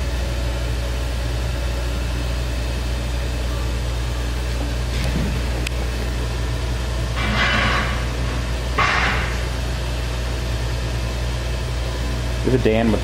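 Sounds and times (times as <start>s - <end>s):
pressure washer pump humming: 0.0s - 13.0s.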